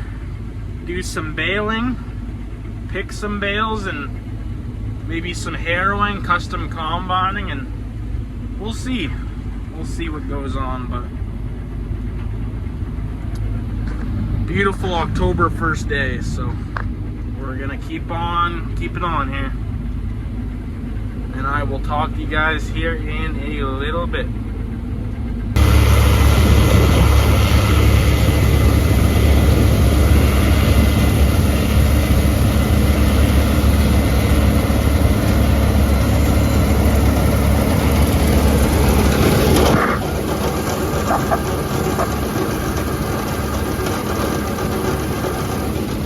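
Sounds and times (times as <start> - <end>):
combine harvester engine drone: 0.0 - 46.0.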